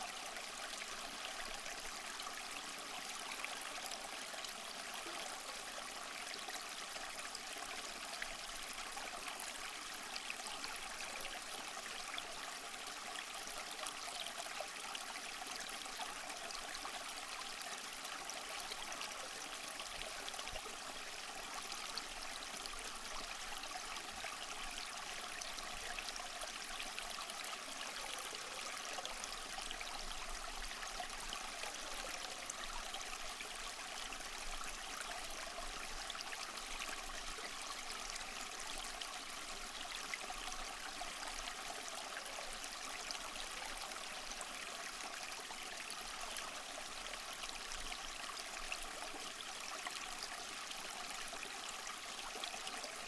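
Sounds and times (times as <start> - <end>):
small waterfall splashing over rocks: 0.0 - 53.0.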